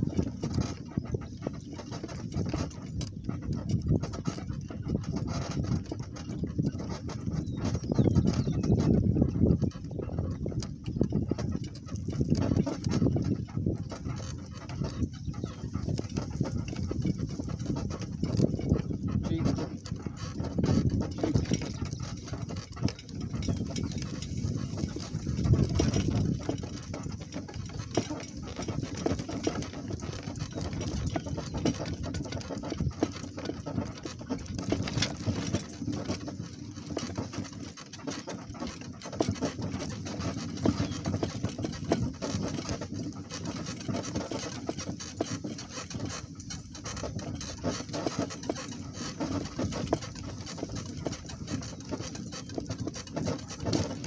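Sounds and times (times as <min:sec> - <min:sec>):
donkey walking: 0:00.0 - 0:54.0
hoof and tack clicks: 0:00.0 - 0:54.0.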